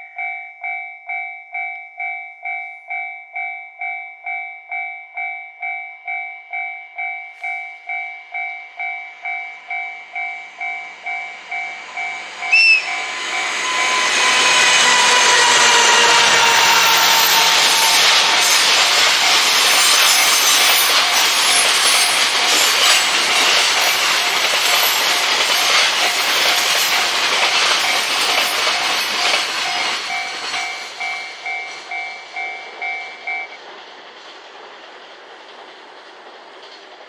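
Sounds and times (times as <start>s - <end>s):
level-crossing warning bell: 0.0s - 33.6s
passing train rush: 7.3s - 37.0s.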